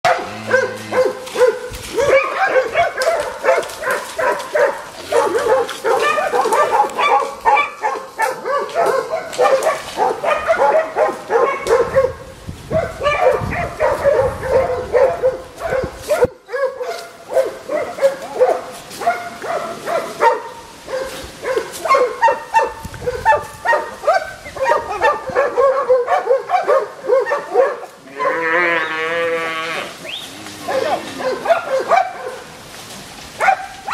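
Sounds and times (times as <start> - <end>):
dogs barking: 0.0 - 28.8, 30.6 - 32.5, 33.4 - 33.9.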